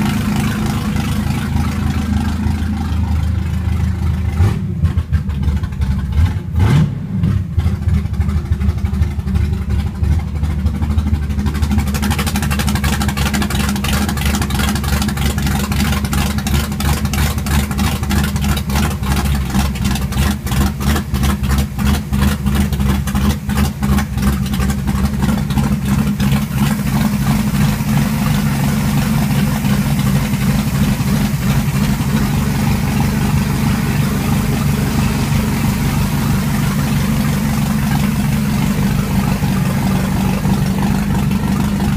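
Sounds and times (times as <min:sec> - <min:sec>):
boat engine idling: 0:00.0 - 0:41.9.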